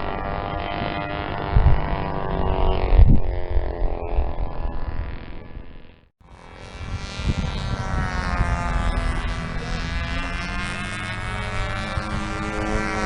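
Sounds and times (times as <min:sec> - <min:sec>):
model airplane engine buzzing: 0:00.0 - 0:13.0.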